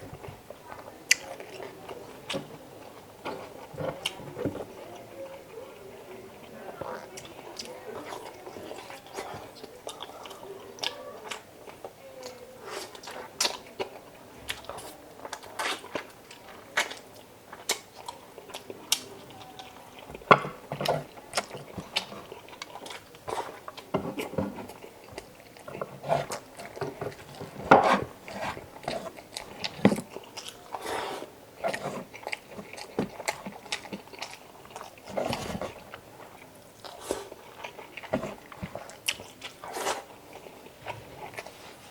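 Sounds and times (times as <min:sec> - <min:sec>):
biting and chewing food: 0:00.0 - 0:41.9.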